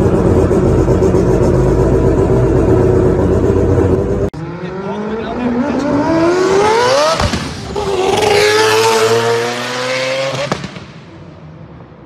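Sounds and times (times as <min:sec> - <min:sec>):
sports car accelerating: 0:00.0 - 0:10.7.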